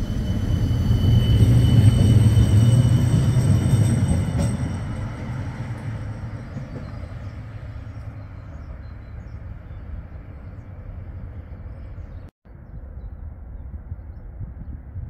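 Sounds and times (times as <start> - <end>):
tram rumbling: 0.0 - 13.0.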